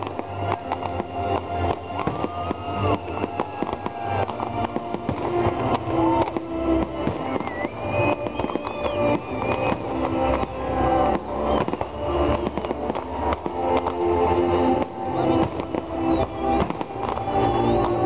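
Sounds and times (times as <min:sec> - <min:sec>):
fireworks bangs and crackling: 0:00.0 - 0:18.0
music: 0:00.0 - 0:18.0.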